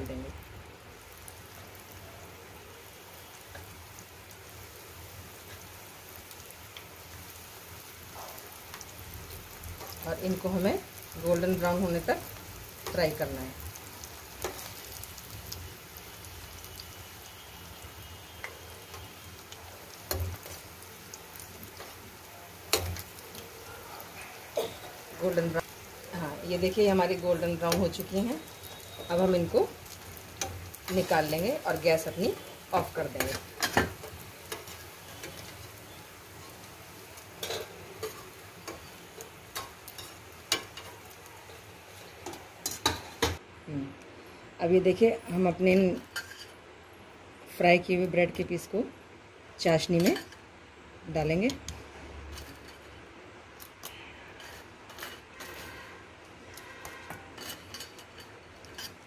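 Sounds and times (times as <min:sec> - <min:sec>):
bread deep-frying in oil: 0:00.0 - 0:43.4, 0:49.6 - 0:59.0.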